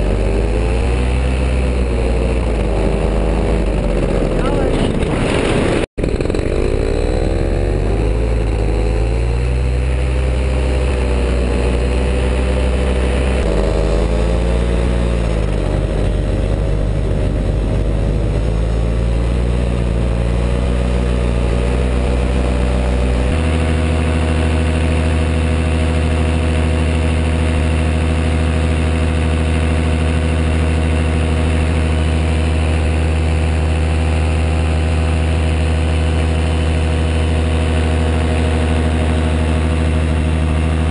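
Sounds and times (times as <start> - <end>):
small aircraft engine in flight: 0.0 - 40.9.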